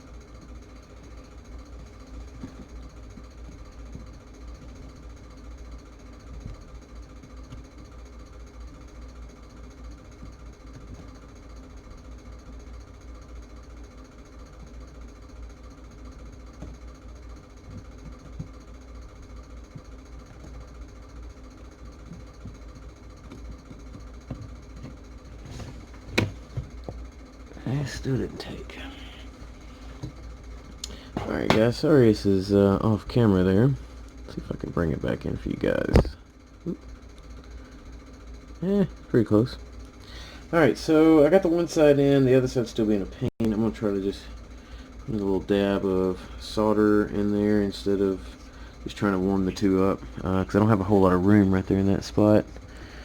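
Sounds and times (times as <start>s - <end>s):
low mechanical hum with tones: 0.0s - 53.0s.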